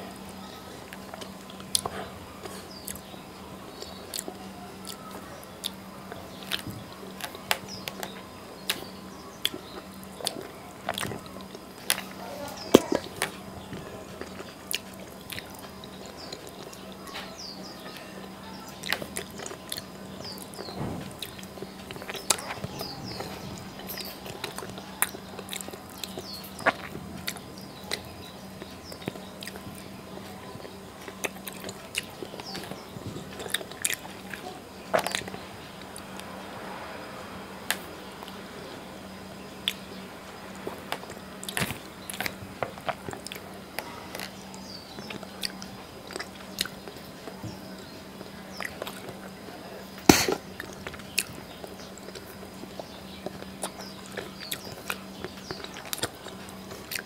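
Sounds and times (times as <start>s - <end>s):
man chewing food: 0.0s - 36.4s, 37.6s - 57.0s.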